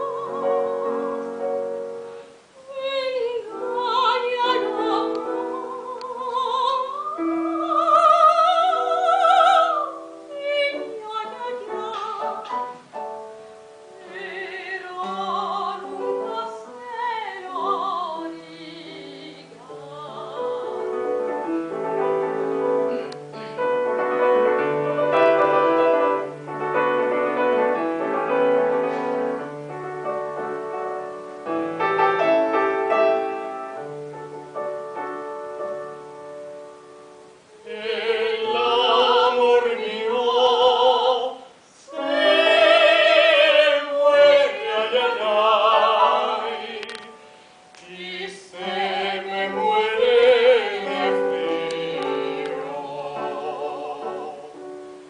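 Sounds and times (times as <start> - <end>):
classical singing: 0.0 - 55.0
piano accompaniment: 0.0 - 55.0.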